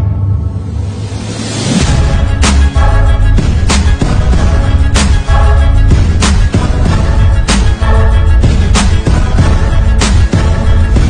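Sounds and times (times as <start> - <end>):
heavy bass line: 0.0 - 11.0.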